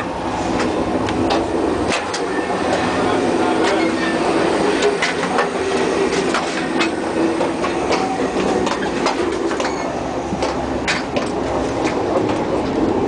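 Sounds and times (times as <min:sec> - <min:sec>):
railroad car rumbling: 0:00.0 - 0:13.0.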